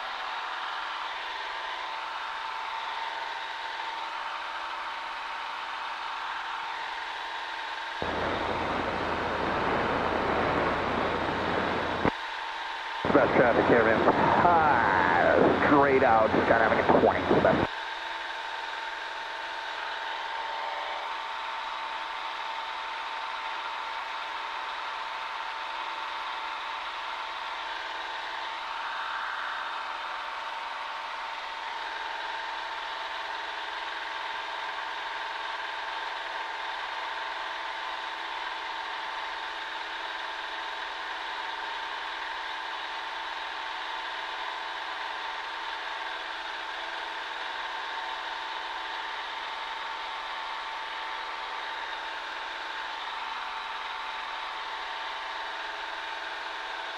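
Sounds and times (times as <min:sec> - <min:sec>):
piston engine and propeller drone: 0:00.0 - 0:56.9.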